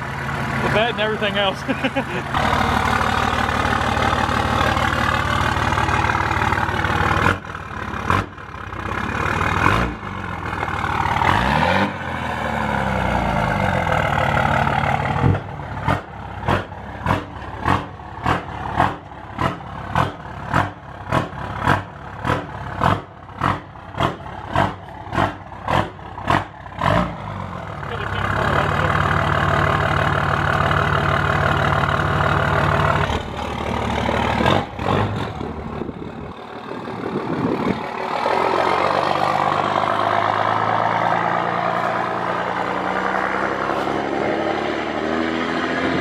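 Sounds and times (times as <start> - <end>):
pickup truck engine revving: 8.0 - 31.0, 31.7 - 46.0.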